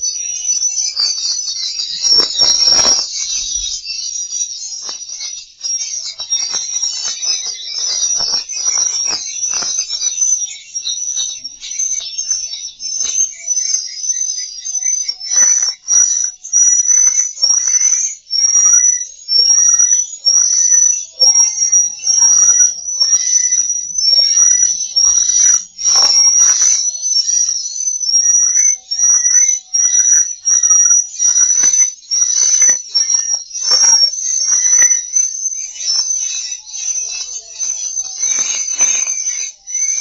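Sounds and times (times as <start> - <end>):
rapid high chirps: 0.0 - 40.0
swiftlets twittering: 0.0 - 40.0.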